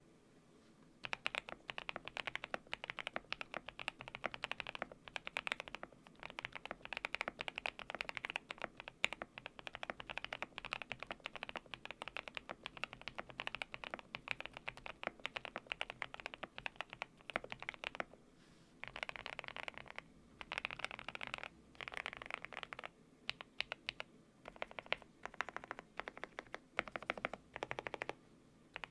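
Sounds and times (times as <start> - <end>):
mechanical keyboard typing: 1.0 - 18.2, 18.8 - 28.2.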